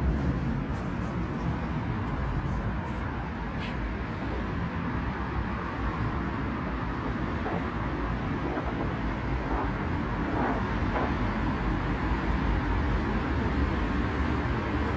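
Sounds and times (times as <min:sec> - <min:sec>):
vehicle road noise rumble: 0:00.0 - 0:14.9.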